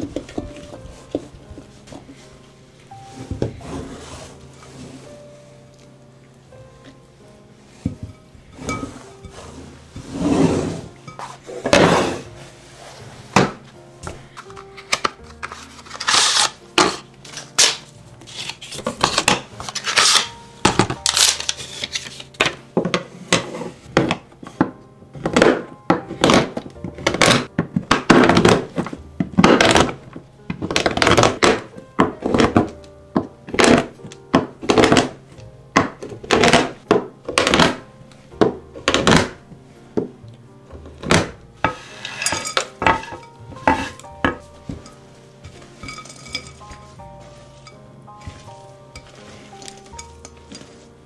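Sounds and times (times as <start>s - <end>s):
background music: 0.0s - 51.0s.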